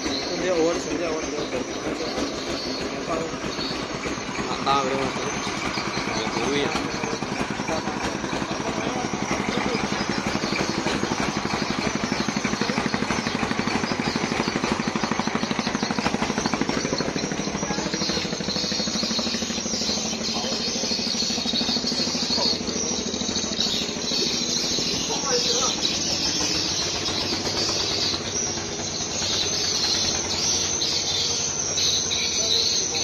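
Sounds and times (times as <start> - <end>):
boat engine chugging: 0.0 - 33.0.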